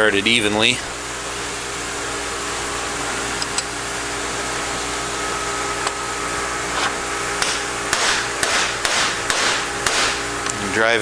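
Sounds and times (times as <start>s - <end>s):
mechanical hum and hiss: 0.0s - 11.0s.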